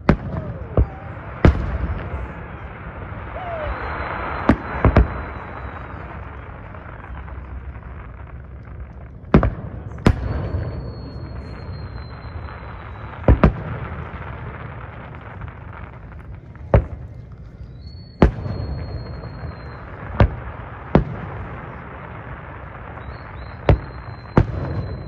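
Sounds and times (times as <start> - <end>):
firework shells booming: 0.0 - 25.0.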